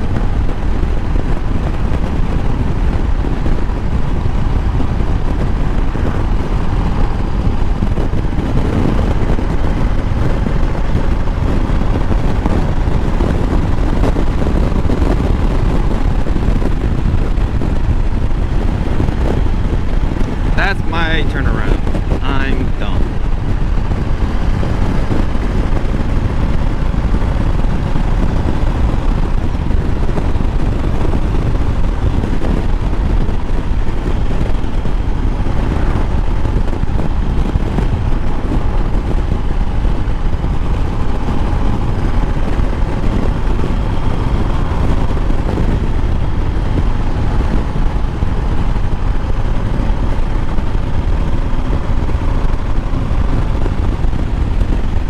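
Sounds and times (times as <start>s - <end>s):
low rumble: 0.0s - 55.0s
motorcycle engine running: 0.0s - 55.0s.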